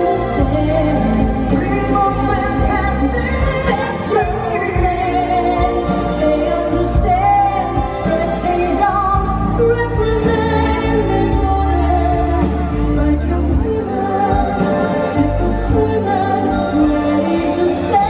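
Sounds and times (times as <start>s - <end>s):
song with singing voice: 0.0s - 18.0s
steady bass line: 0.0s - 18.0s.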